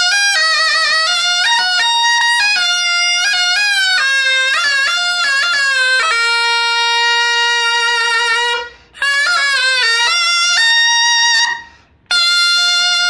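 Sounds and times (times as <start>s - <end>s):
double-reed shawm melody: 0.0s - 13.0s.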